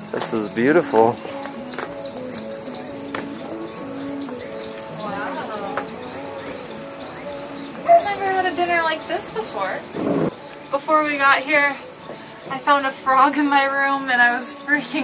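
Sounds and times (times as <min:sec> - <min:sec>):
lower insect calls: 0:00.0 - 0:15.0
night insects trilling: 0:00.0 - 0:15.0.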